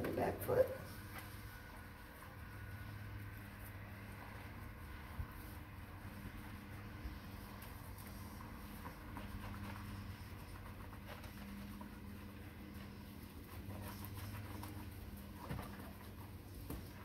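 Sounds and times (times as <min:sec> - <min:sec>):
sponge scrubbing wet fur: 0:00.0 - 0:17.0.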